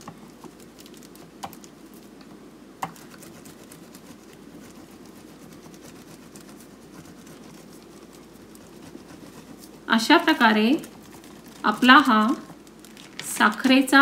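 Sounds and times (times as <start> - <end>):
faint crinkling and ticking: 0.0 - 14.0.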